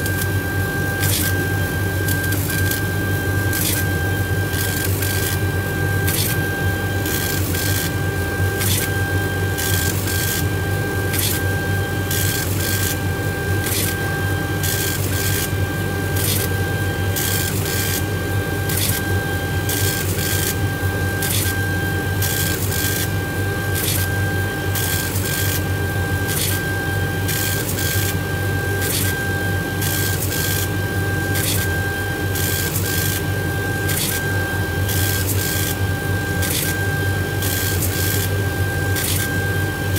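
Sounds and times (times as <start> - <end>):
laser engraver head whine: 0.0 - 39.9.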